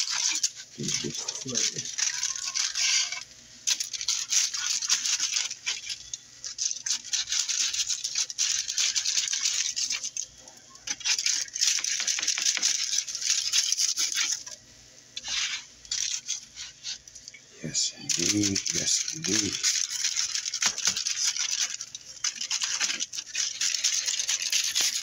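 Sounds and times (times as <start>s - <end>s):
spatula scraping foil-lined pan: 0.0s - 14.6s, 15.2s - 25.0s.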